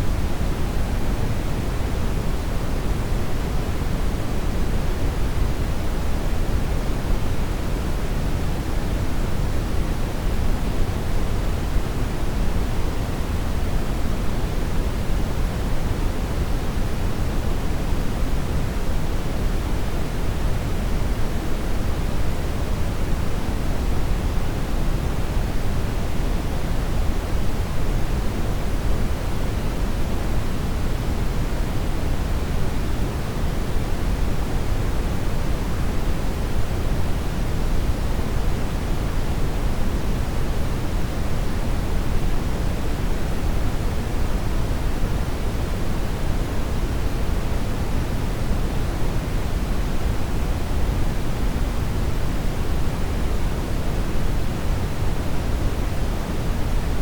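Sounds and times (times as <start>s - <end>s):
constant low-weighted hiss: 0.0s - 57.0s.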